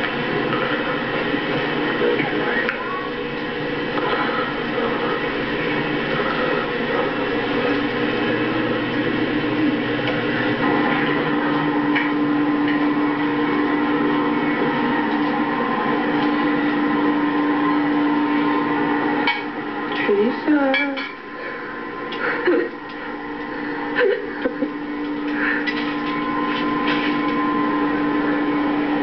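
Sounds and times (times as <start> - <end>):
droning tone: 0.0 - 29.0
steady hum: 0.0 - 29.0.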